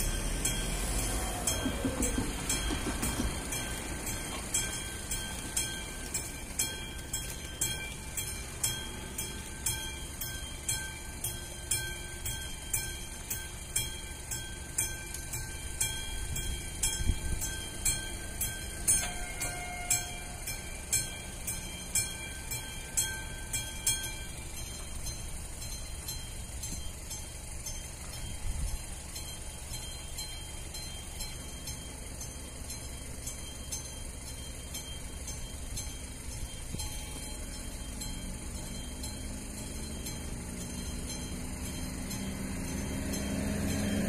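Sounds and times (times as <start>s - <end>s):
level crossing bell ringing: 0.0s - 44.0s.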